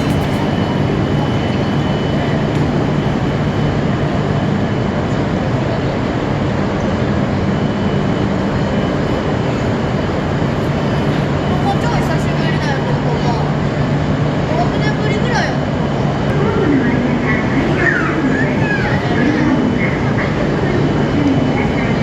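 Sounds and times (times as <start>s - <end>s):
train rumbling at platform: 0.0s - 22.0s.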